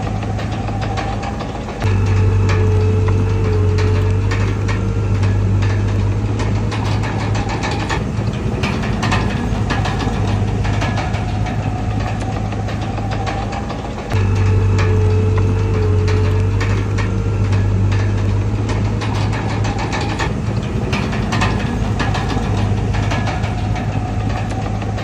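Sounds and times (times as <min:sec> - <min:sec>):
bulldozer diesel engine running: 0:00.0 - 0:25.0
metallic clanks and knocks: 0:00.0 - 0:25.0.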